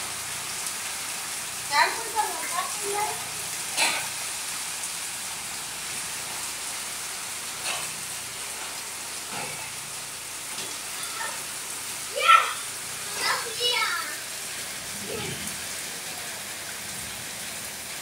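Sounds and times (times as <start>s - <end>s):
heavy rain on street: 0.0s - 18.0s.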